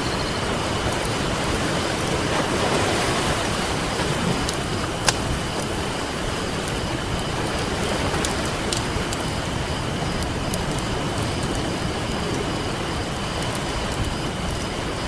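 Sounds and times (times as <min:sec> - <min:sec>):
campfire crackling and popping: 0:00.0 - 0:15.0
ocean surf: 0:00.0 - 0:15.0.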